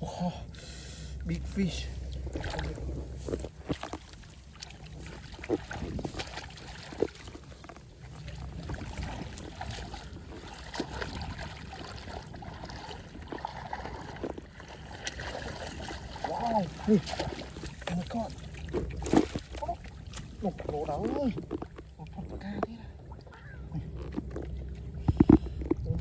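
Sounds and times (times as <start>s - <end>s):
low background rumble: 0.0s - 26.0s
splashing in shallow muddy water: 0.6s - 26.0s.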